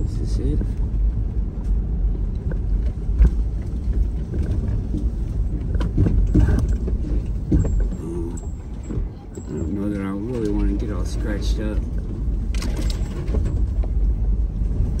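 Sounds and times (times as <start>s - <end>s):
car engine rumble: 0.0s - 15.0s
knocks and rattles: 2.4s - 15.0s.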